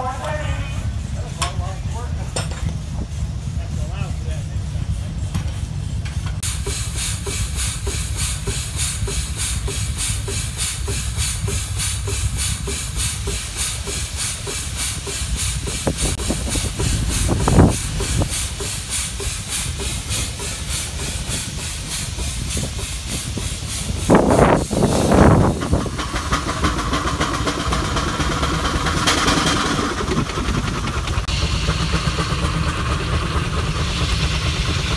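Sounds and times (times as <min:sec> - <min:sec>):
low rumble: 0:00.0 - 0:34.9
steady steam hiss: 0:00.0 - 0:34.9
steam engine exhaust chuffing: 0:00.0 - 0:34.9.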